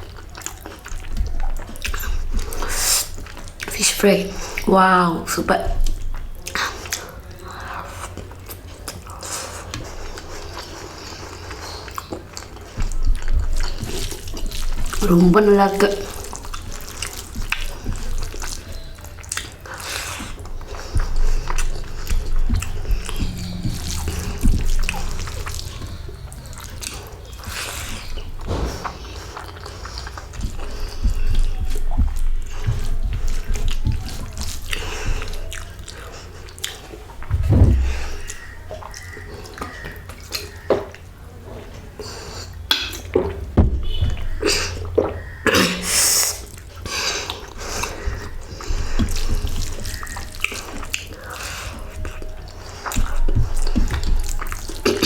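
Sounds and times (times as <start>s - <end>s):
wet chewing and lip-smacking: 0.0s - 4.8s, 5.4s - 41.2s, 42.0s - 55.0s.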